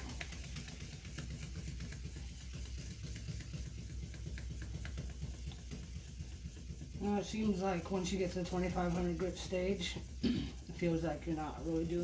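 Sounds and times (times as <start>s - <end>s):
sandpaper rubbing on plastic: 0.0s - 12.0s
steady low hum: 0.0s - 12.0s.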